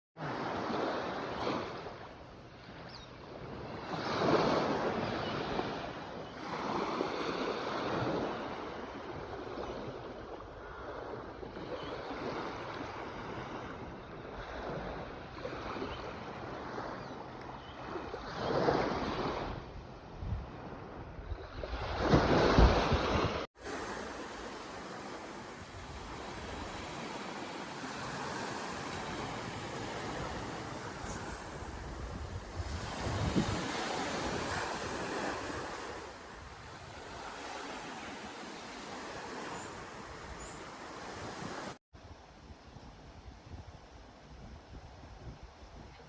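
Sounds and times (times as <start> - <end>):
ocean waves breaking: 0.2 - 41.8.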